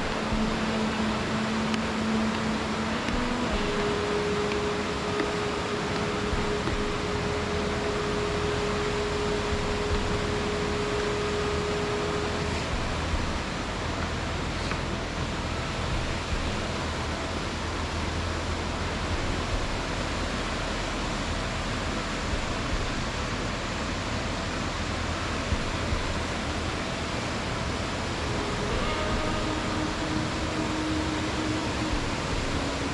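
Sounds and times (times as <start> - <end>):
faint steady tone: 0.0 - 32.9
mountain stream rushing: 0.0 - 32.9.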